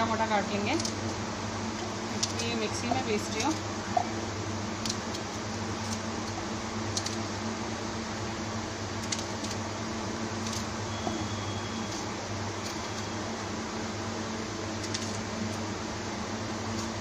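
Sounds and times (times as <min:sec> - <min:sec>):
fan hum: 0:00.0 - 0:17.0
low electrical drone: 0:00.0 - 0:17.0.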